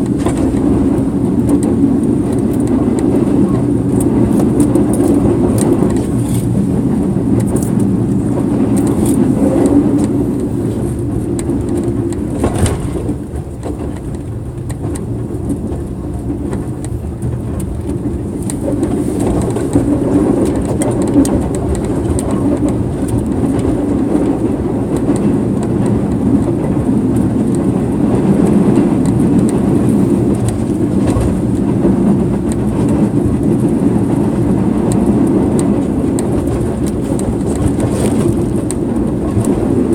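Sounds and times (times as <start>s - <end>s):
sharp knocks of train wheels: 0.0s - 39.9s
train rumbling on rails: 0.0s - 39.9s.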